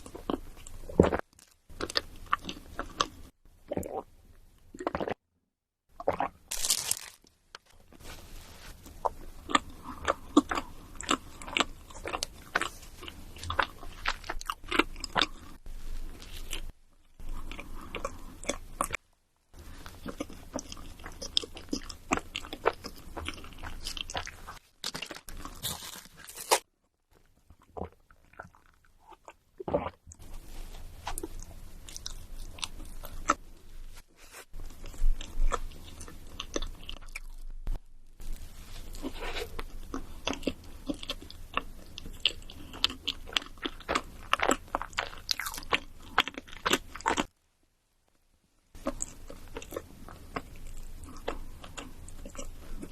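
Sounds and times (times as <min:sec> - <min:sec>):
crunchy food chewing: 0:00.0 - 0:04.1, 0:06.0 - 0:07.2, 0:08.8 - 0:19.0, 0:19.6 - 0:33.4, 0:34.5 - 0:47.4, 0:48.8 - 0:52.9.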